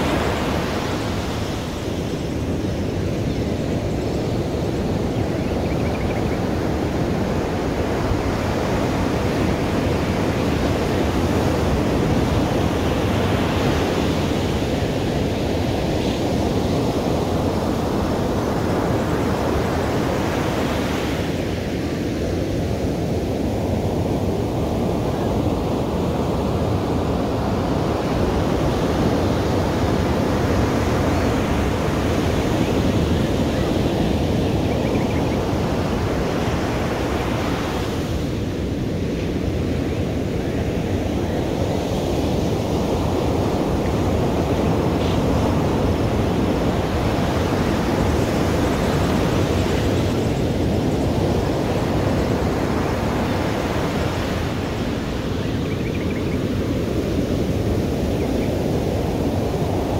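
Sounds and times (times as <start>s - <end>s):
waves breaking on beach: 0.0s - 59.9s.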